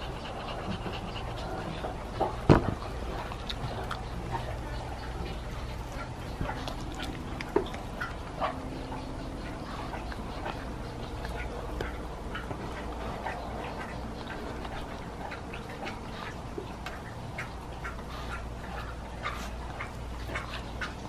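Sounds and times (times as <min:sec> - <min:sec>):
puppy chewing meat: 0:00.0 - 0:21.0
teeth clicking and smacking: 0:00.0 - 0:21.0.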